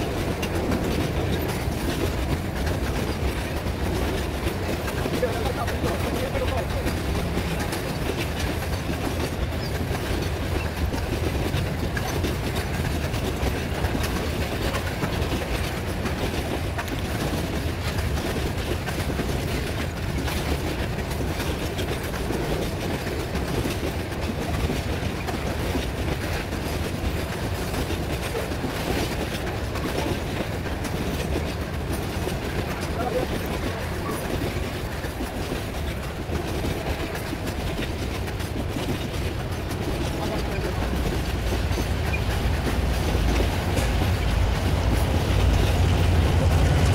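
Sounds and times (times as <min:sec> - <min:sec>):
train wheels rumbling on rails: 0:00.0 - 0:46.9
wheels clicking over rail joints: 0:00.0 - 0:46.9.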